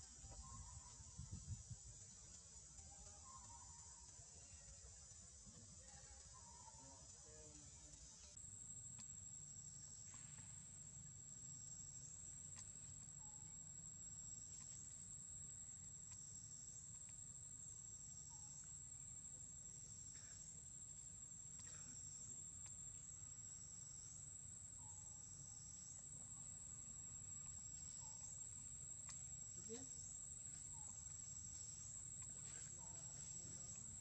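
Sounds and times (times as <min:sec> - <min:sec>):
insect chorus trilling: 0:00.0 - 0:34.0.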